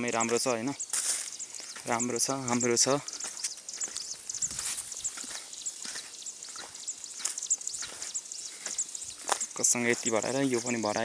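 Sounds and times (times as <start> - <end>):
footsteps on dirt path: 0.0 - 11.0
high-pitched chirps: 0.0 - 11.0.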